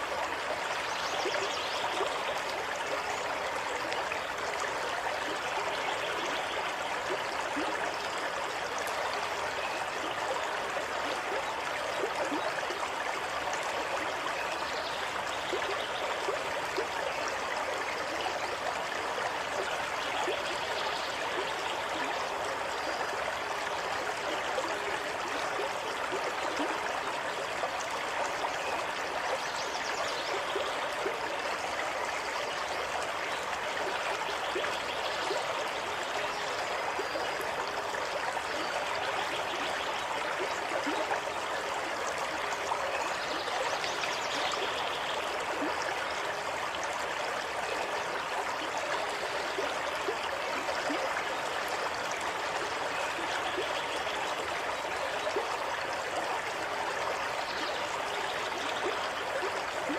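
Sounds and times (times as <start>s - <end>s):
stream water trickling over stones: 0.0s - 59.9s.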